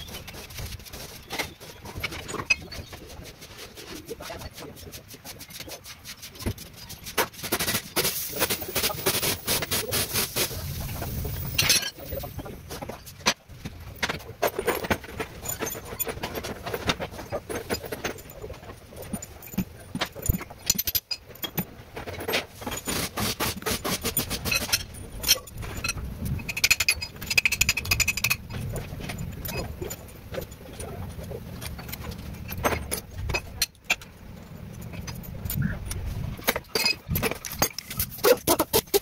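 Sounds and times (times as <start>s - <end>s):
metallic clinking and rattling: 0.0s - 39.0s.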